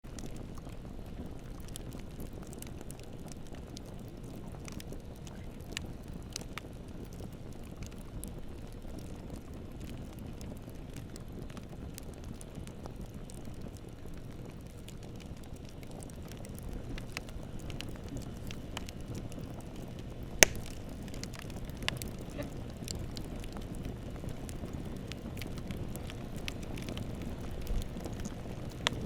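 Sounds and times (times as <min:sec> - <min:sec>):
burning wood crackling: 0:00.1 - 0:29.0
flames rumbling: 0:00.1 - 0:29.0.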